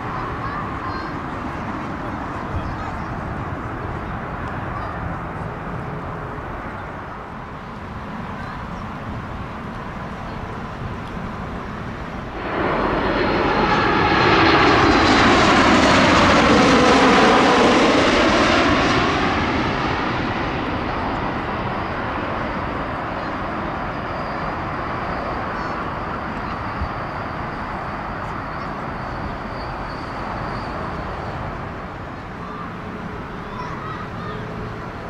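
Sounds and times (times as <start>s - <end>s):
jet engine roar overhead: 0.0s - 35.0s.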